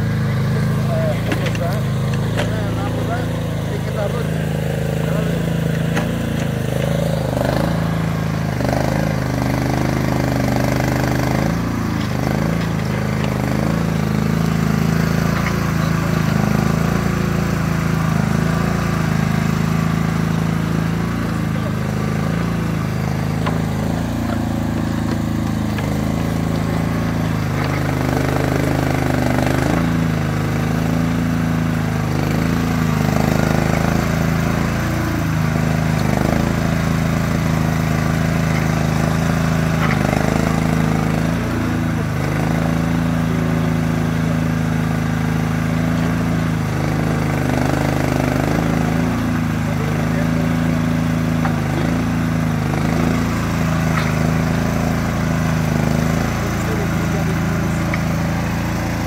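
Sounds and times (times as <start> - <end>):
mini excavator engine running: 0.0 - 59.0.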